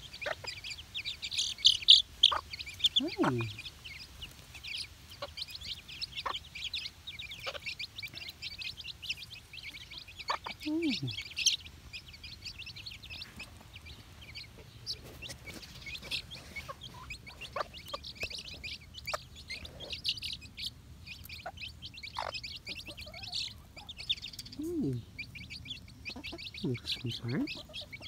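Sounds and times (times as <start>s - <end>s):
chicks peeping: 0.0s - 28.0s
hen calling: 0.0s - 28.0s.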